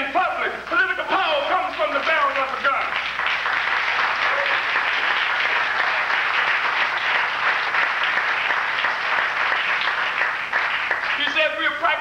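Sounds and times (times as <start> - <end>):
audience applauding: 0.7 - 12.0.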